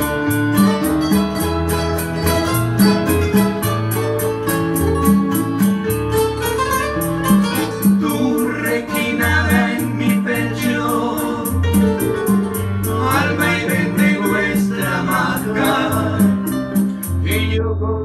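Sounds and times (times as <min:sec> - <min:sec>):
shaker rhythm: 0:00.0 - 0:17.5
acoustic guitars strumming: 0:00.0 - 0:17.6
bass line: 0:00.0 - 0:18.0.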